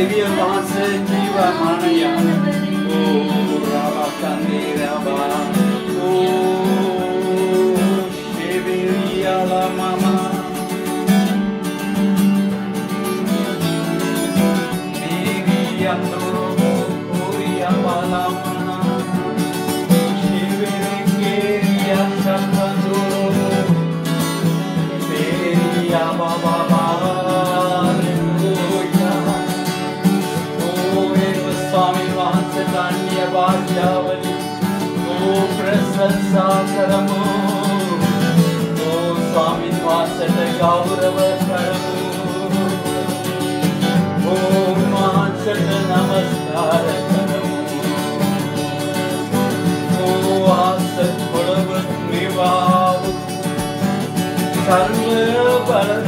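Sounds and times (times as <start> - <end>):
person singing: 0.0 - 11.4, 13.5 - 56.0
acoustic guitar strumming: 0.0 - 56.0.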